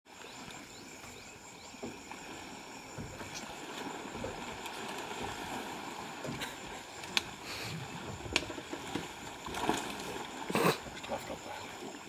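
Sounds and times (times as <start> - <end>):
river water sloshing and splashing: 0.1 - 12.0.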